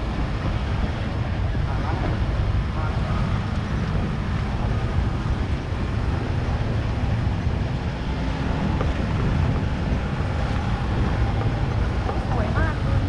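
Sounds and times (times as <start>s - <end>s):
vehicle engine running: 0.0s - 13.0s
wind rumbling on microphone: 0.0s - 13.0s.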